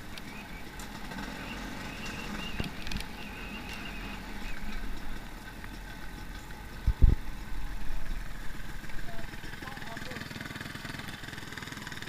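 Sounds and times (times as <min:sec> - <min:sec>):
dirt bike engine at low revs: 0:00.0 - 0:12.0.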